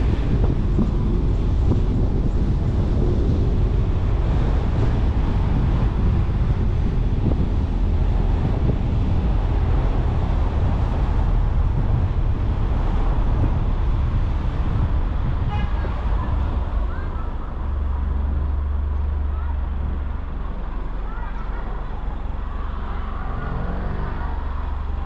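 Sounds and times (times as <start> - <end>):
tyre and road rumble: 0.0 - 25.0
wind buffeting microphone: 0.0 - 25.0.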